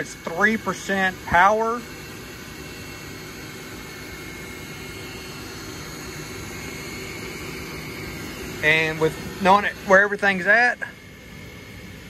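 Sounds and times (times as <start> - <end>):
laser engraver whirring hiss: 0.0 - 12.0.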